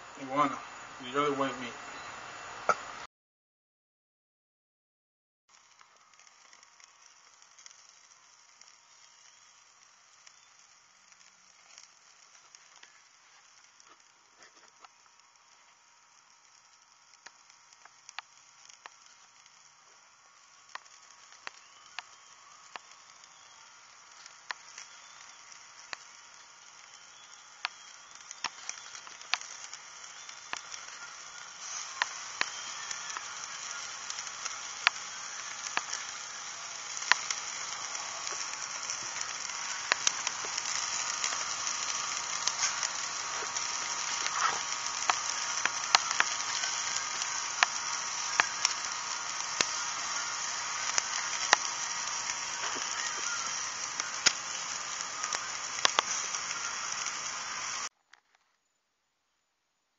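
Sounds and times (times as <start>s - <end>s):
meat sizzling on a grill: 0.0s - 3.0s, 5.5s - 57.9s
crackles and pops: 0.0s - 3.1s, 5.5s - 58.7s.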